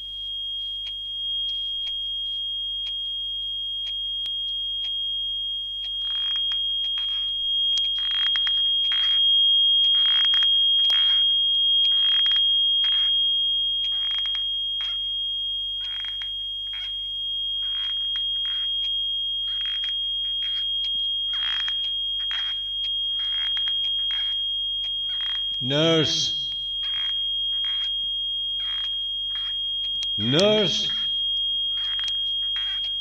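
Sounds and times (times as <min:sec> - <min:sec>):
high-pitched ringing tone: 0:00.0 - 0:33.0.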